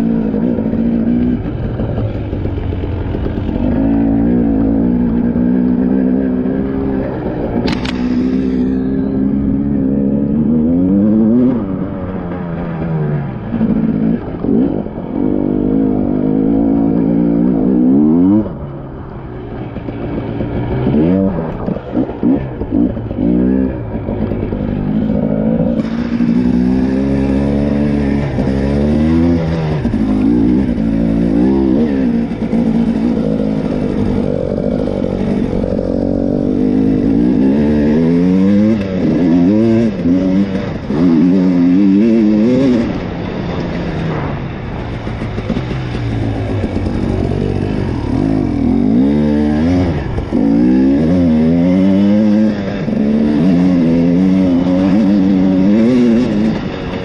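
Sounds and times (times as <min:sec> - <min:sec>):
two-stroke motorcycle revving: 0:00.0 - 0:57.0.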